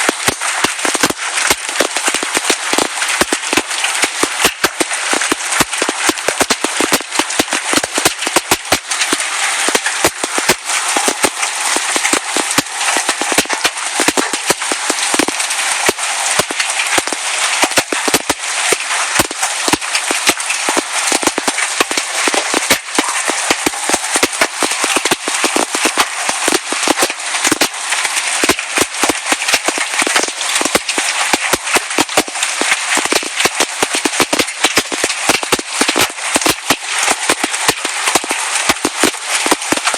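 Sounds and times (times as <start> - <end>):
hailstones pelting down: 0.0 - 39.9
rain falling: 0.0 - 39.9.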